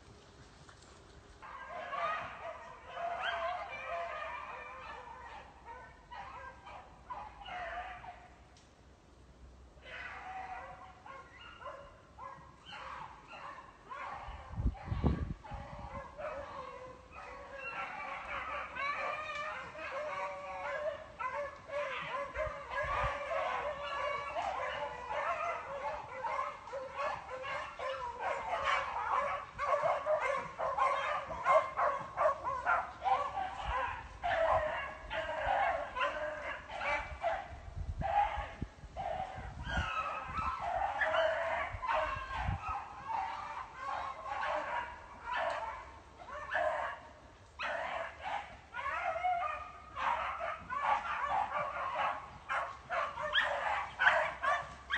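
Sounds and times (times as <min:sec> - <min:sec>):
dogs baying and yipping: 0:01.4 - 0:08.3, 0:09.8 - 0:54.9.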